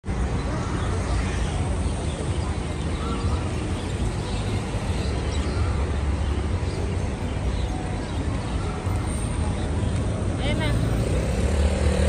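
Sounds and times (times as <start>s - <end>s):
pedestrian noise: 0.0s - 12.0s
road traffic rumble: 0.0s - 12.0s.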